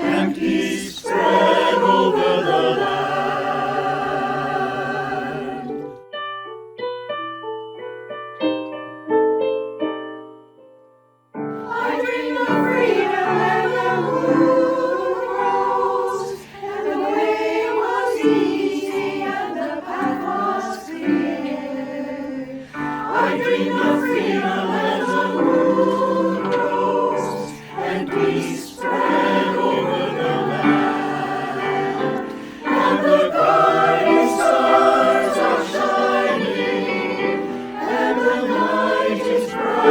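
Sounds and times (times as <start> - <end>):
choir singing: 0.0 - 6.0, 11.6 - 39.9
piano: 0.0 - 39.9.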